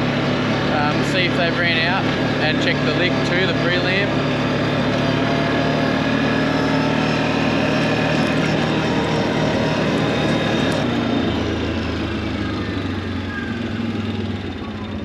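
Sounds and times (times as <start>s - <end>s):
farm vehicle engine running: 0.0s - 15.0s.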